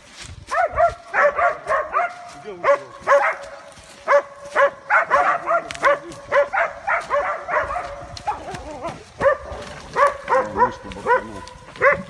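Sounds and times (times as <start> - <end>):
dog barking rapidly: 0.5 - 8.6, 9.2 - 12.0.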